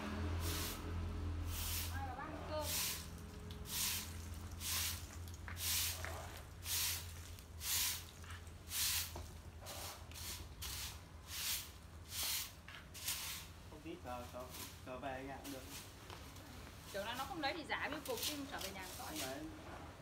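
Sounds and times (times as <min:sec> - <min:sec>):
broom sweeping leaves on tiles: 0:00.1 - 0:20.0.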